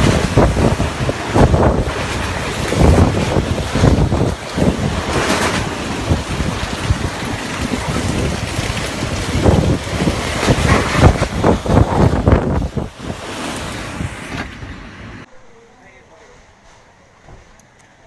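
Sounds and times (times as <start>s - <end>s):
wind gusting on microphone: 0.0s - 15.3s.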